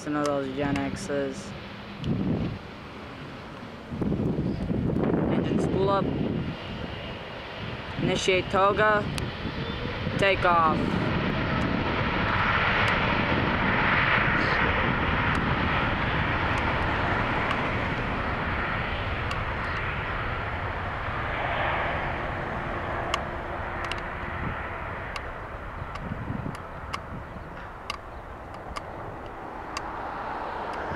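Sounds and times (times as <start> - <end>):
jet engines at takeoff thrust: 0.0 - 30.9.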